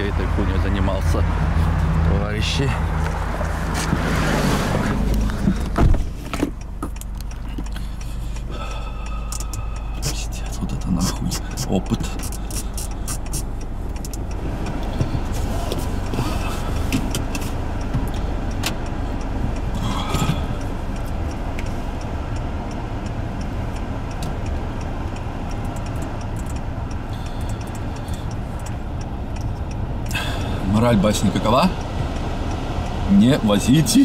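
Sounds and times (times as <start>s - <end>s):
car interior rumble: 0.0s - 34.0s.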